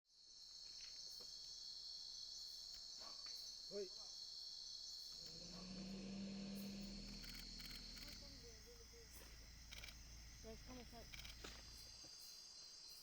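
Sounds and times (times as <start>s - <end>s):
insects trilling: 0.2s - 13.0s
short lower insect call: 0.2s - 13.0s.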